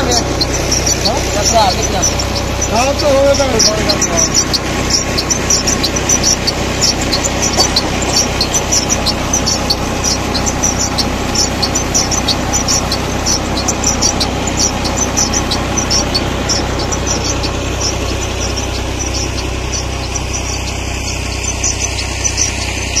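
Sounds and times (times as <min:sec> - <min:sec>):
fast high ticking: 0:00.0 - 0:23.0
tractor diesel engine running: 0:00.0 - 0:23.0.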